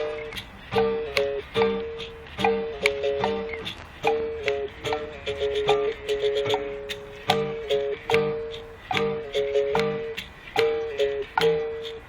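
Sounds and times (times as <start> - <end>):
acoustic reggae band playing: 0.0 - 12.0.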